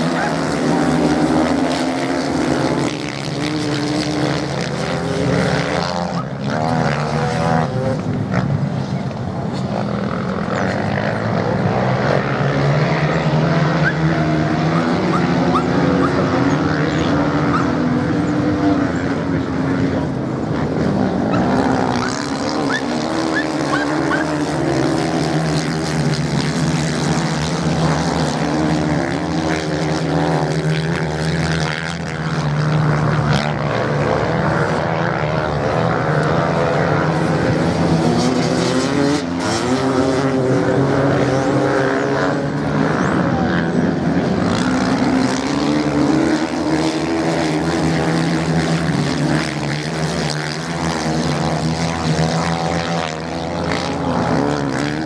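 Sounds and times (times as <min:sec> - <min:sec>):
motocross bike engines: 0:00.0 - 0:55.0.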